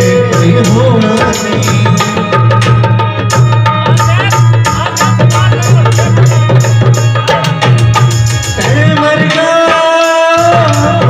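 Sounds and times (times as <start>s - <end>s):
hand drum beating: 0.0s - 11.0s.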